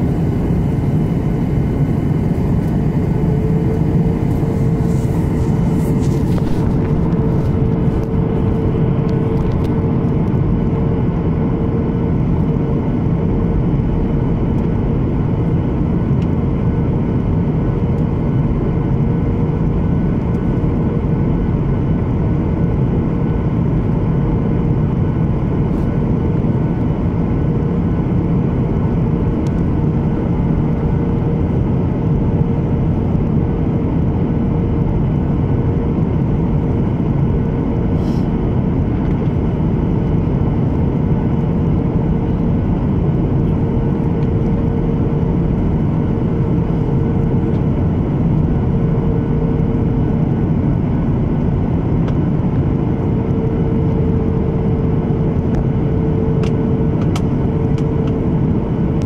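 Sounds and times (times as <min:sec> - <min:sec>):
airplane cabin engine roar: 0:00.0 - 0:59.0
steady droning tone: 0:00.0 - 0:59.0.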